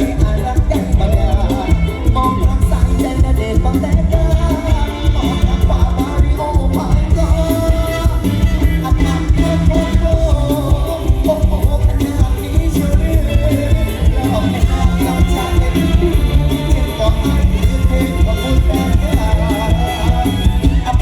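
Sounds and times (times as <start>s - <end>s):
live band music with driving beat: 0.0s - 21.0s.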